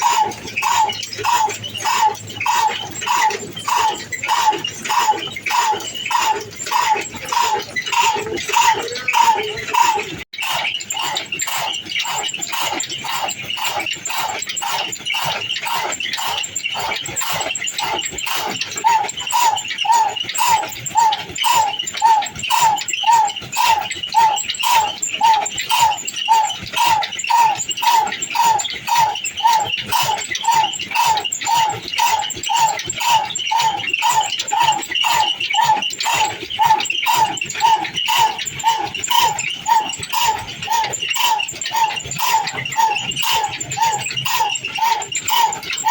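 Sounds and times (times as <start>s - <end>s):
repeating high squeak: 0.0s - 45.9s.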